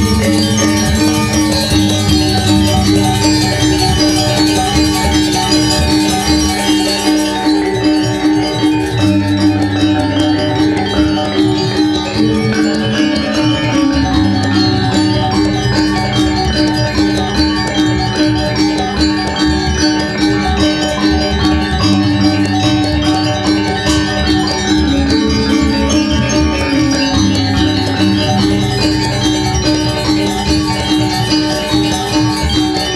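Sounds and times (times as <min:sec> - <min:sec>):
gamelan metallophones struck: 0:00.0 - 0:32.9.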